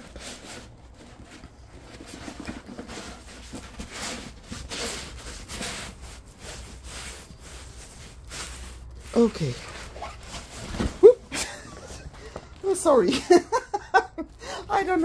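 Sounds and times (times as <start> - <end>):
canvas rustling on tablecloth: 0.0 - 13.1.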